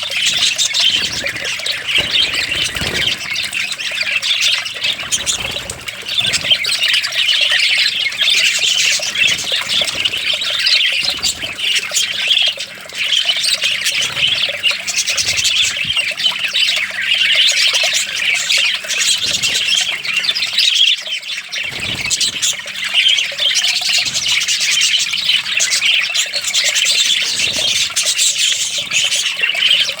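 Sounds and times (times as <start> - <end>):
parrots calling and chattering: 0.0 - 30.0.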